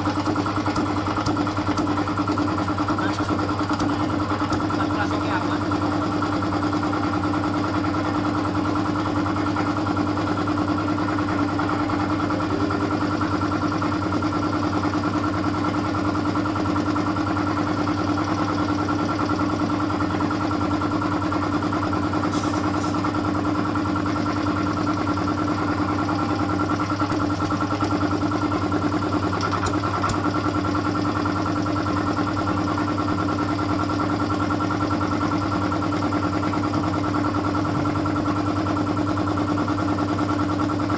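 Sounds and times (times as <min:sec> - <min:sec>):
air compressor running: 0:00.0 - 0:40.9.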